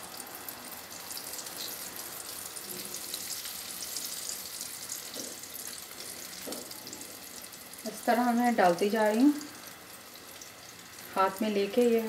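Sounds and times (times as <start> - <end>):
deep-frying sizzle and crackle: 0.0 - 12.0.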